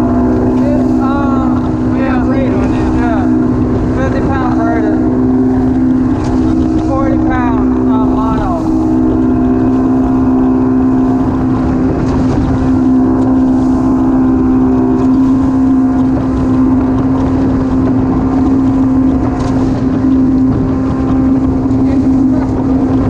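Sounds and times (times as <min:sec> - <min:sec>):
motorboat engine drone: 0:00.0 - 0:23.0
water rushing off hull: 0:00.0 - 0:23.0.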